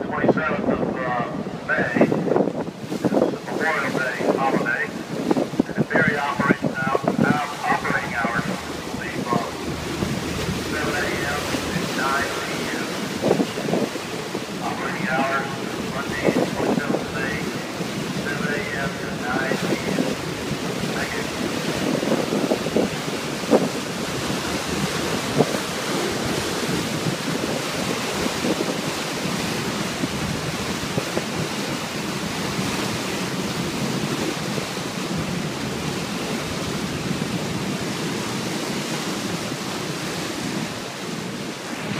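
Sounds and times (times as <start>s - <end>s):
churning water: 0.0s - 41.9s
wind buffeting microphone: 0.0s - 41.9s.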